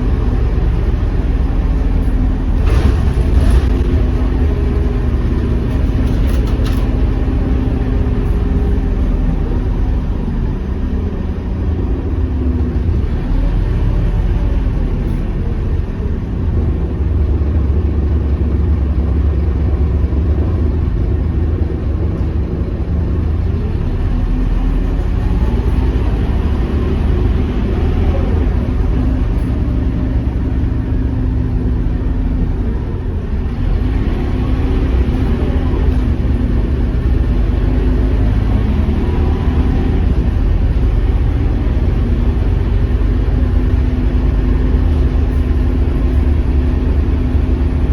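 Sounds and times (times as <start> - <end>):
bus diesel engine running: 0.0 - 47.9.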